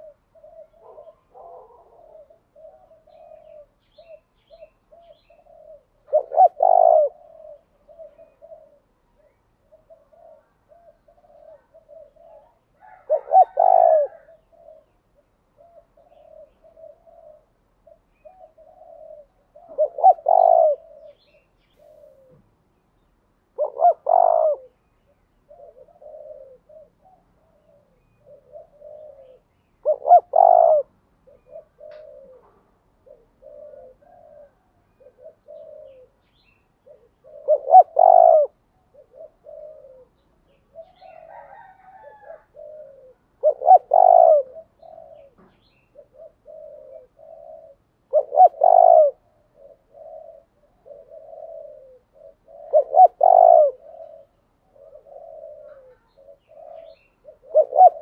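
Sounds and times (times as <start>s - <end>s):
dove cooing: 0.0s - 22.8s, 23.4s - 58.0s.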